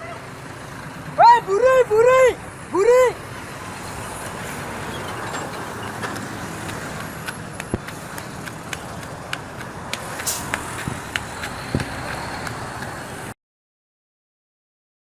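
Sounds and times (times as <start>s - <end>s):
passing vehicles rushing: 0.0s - 13.4s.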